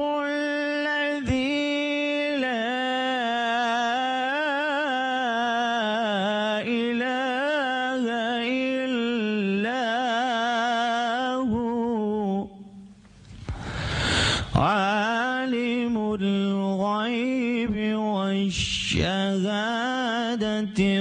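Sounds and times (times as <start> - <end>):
man reciting melodically: 0.0 - 13.0, 14.1 - 21.0.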